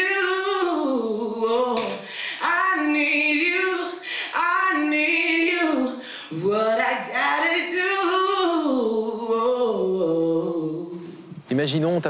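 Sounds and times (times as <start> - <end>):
woman singing with vibrato: 0.0 - 11.4.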